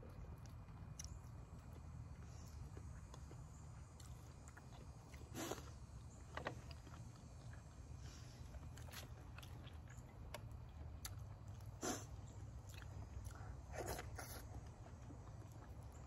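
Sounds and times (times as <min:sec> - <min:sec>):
low background hum: 0:00.0 - 0:16.0
person chewing food: 0:00.0 - 0:16.0.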